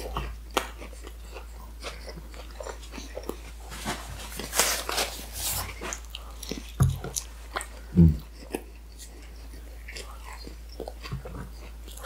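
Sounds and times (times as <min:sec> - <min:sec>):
person chewing with mouth clicks: 0:00.0 - 0:12.0.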